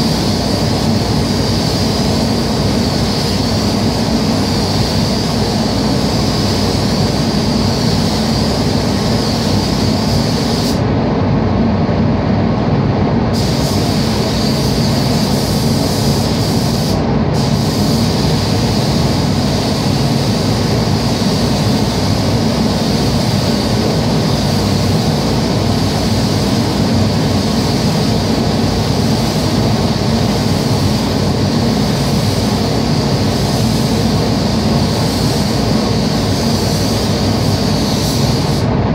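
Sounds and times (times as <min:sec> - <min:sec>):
paint spray gun hissing: 0:00.0 - 0:10.8, 0:13.4 - 0:38.7
ventilation fans rumbling: 0:00.0 - 0:38.9.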